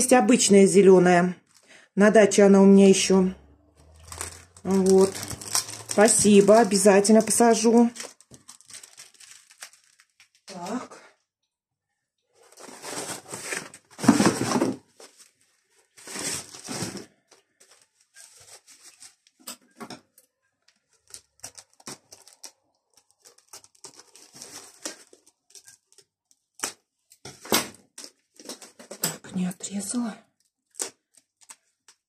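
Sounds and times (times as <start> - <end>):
plastic packaging rustling and crinkling: 1.4 - 1.8, 3.8 - 10.8, 12.4 - 32.0.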